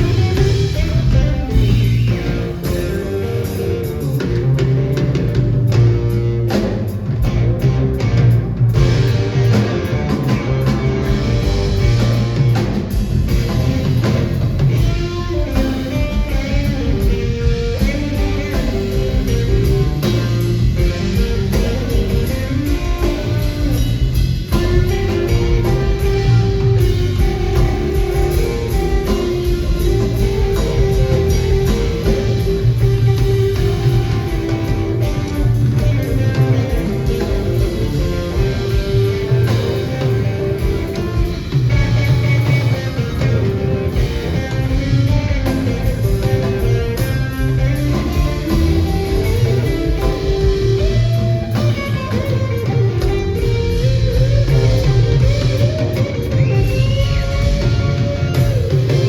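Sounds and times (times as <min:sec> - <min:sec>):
blues-rock band playing: 0:00.0 - 0:59.0
electric guitar: 0:00.0 - 0:59.0.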